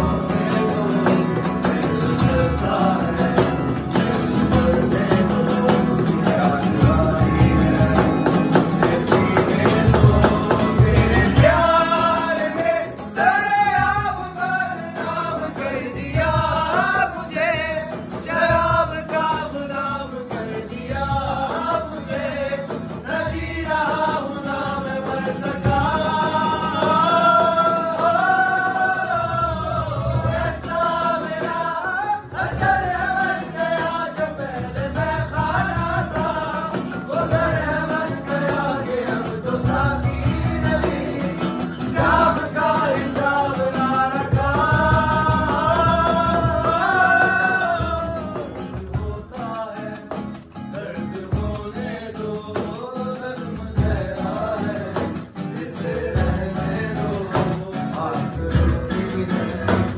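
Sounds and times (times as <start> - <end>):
acoustic guitar strumming: 0.0 - 59.9
cajon beats: 0.0 - 59.9
man singing: 0.0 - 59.9.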